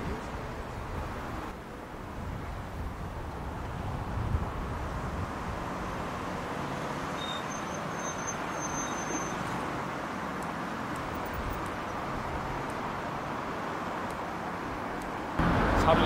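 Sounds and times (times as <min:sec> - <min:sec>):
cars passing on road: 0:00.0 - 0:16.0.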